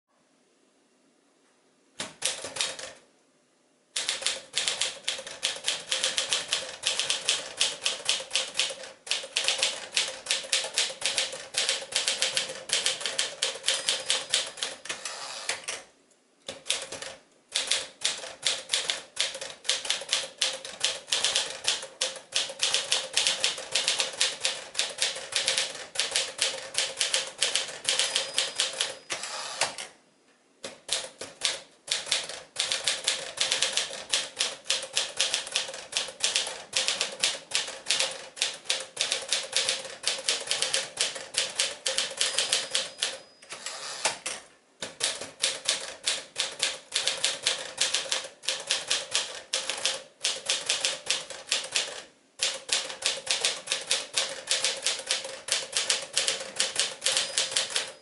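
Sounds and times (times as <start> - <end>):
typewriter keystroke clacks: 2.0 - 3.0, 4.0 - 15.8, 16.5 - 29.9, 30.6 - 58.0.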